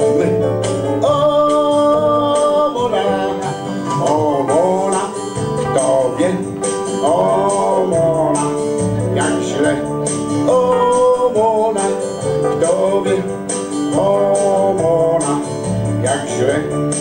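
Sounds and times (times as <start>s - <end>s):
backing music with steady beat: 0.0s - 17.0s
man singing into a microphone: 0.0s - 17.0s.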